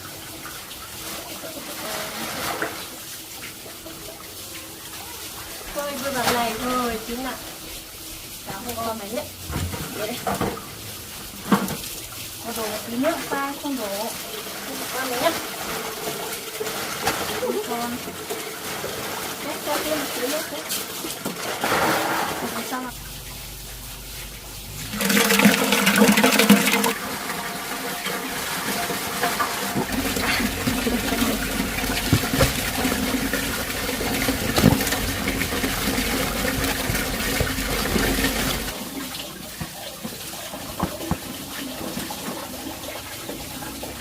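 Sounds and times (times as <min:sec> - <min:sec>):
water pouring and splashing: 0:00.0 - 0:44.0.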